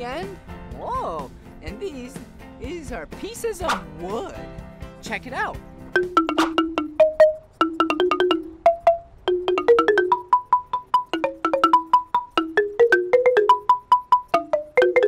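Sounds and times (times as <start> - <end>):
marimba played rapidly: 2.8 - 15.0.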